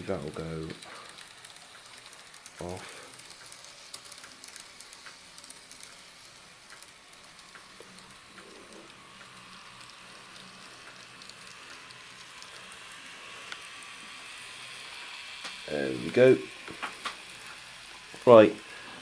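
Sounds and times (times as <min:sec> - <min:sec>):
model train on track: 0:00.0 - 0:19.0.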